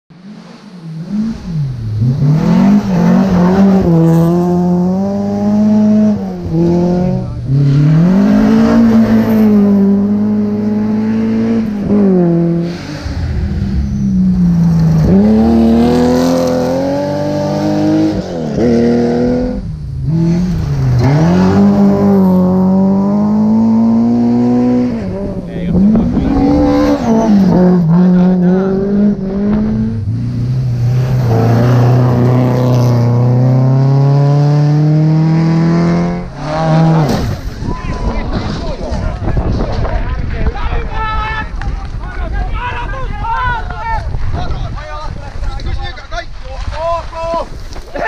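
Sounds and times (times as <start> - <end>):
rally car engine revving: 0.1 - 40.3.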